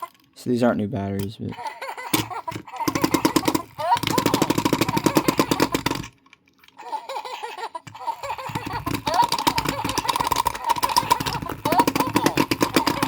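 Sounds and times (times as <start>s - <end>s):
toy mechanism rattling: 0.0s - 0.4s, 1.5s - 13.0s
electronic toy laughing voice: 1.6s - 6.1s, 6.8s - 13.0s.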